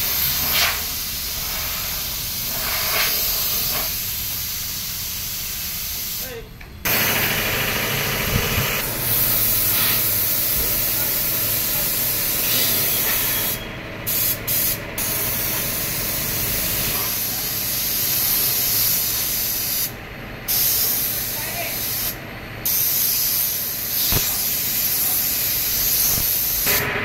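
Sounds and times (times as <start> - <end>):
spray gun hissing: 0.0 - 26.8.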